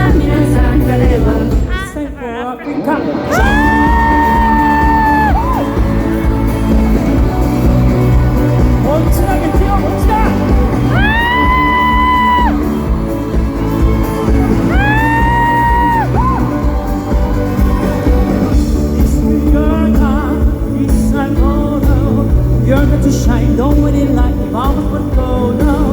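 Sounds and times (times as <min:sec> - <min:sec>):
live pop band through pa: 0:00.0 - 0:25.9.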